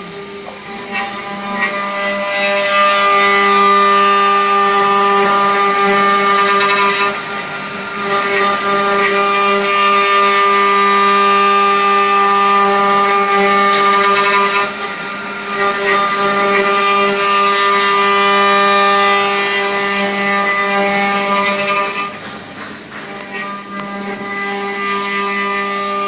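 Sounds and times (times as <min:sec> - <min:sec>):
high motor whine: 0:00.0 - 0:26.0.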